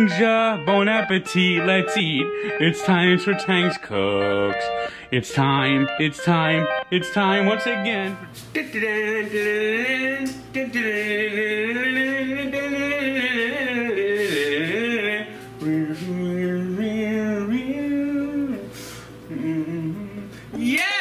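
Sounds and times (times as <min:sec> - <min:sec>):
backing music: 0:00.0 - 0:21.0
man singing jingle: 0:00.0 - 0:21.0.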